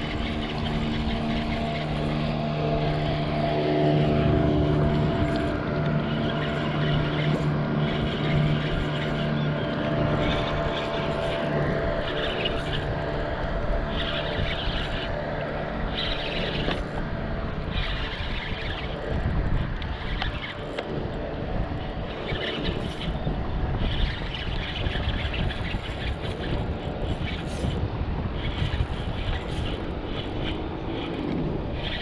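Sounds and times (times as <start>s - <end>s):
wind and water noise: 0.0s - 32.0s.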